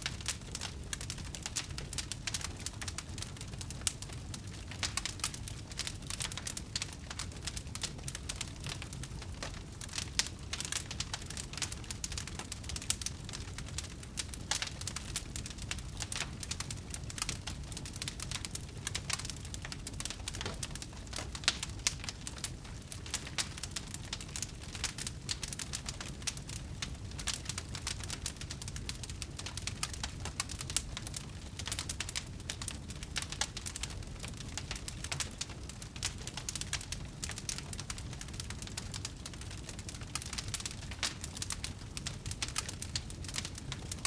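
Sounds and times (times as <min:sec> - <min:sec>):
low rumble of flames: 0:00.0 - 0:44.0
wood fire crackling and popping: 0:00.0 - 0:44.0.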